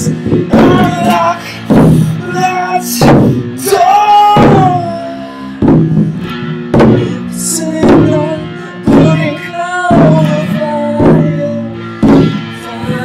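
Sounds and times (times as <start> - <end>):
person singing: 0.0 - 5.7, 6.9 - 13.0
heavy drum hits: 0.0 - 13.0
live rock music: 0.0 - 13.0.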